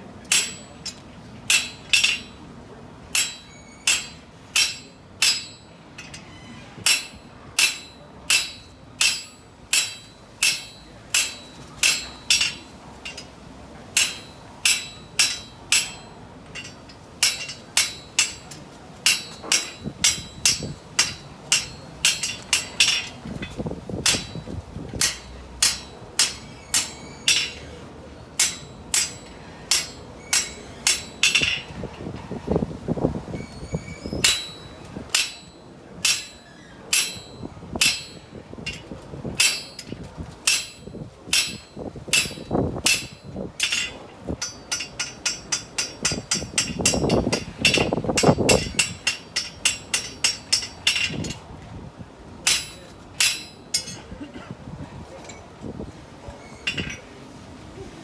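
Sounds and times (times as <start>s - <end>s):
hammer striking steel on anvil: 0.2s - 2.5s, 3.1s - 13.3s, 13.9s - 31.9s, 34.1s - 51.4s, 52.5s - 54.2s.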